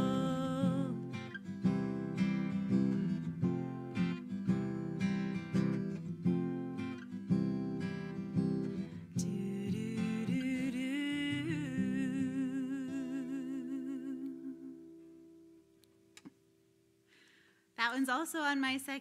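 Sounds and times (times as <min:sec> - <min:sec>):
acoustic guitar chords: 0:00.0 - 0:16.6.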